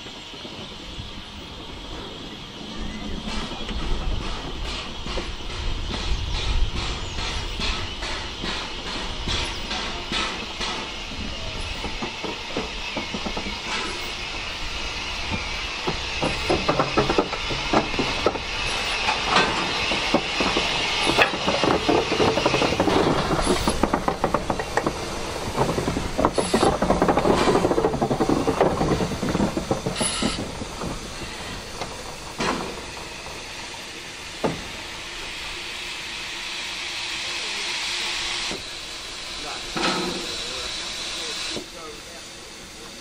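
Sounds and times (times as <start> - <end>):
steam hissing: 0.0 - 43.0
steam locomotive wheels clanking: 0.0 - 43.0.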